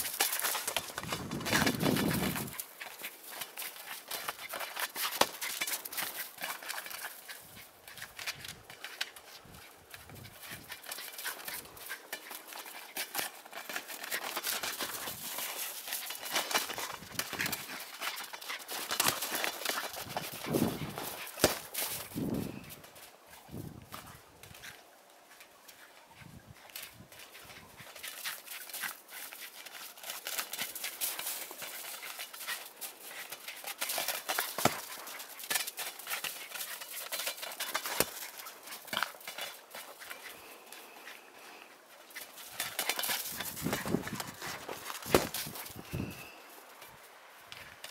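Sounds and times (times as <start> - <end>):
footsteps crunching in snow: 0.0 - 47.9.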